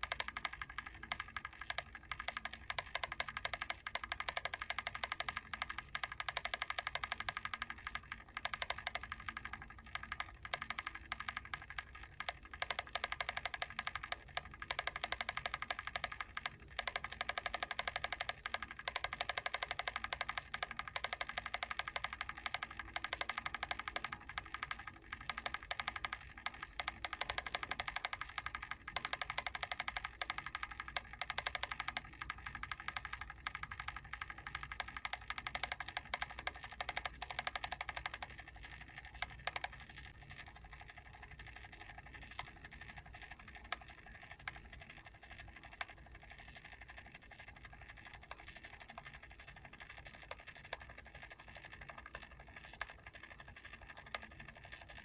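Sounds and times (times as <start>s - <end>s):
mechanical timer clicking rapidly: 0.0s - 55.0s.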